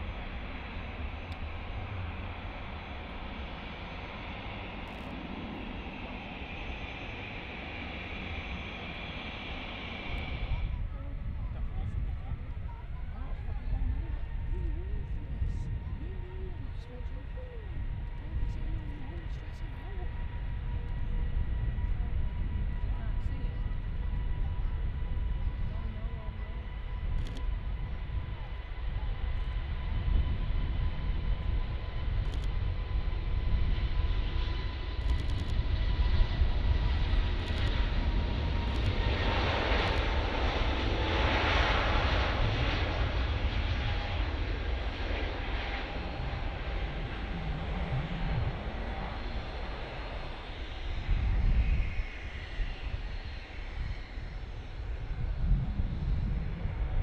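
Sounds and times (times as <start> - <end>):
high jet engine whine: 0.0 - 57.0
jet engines rumbling at takeoff: 0.0 - 57.0.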